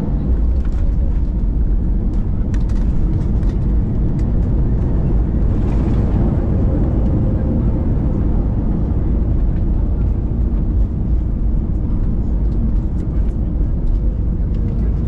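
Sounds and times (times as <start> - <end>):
airliner engines and wheels rumbling: 0.0 - 15.0.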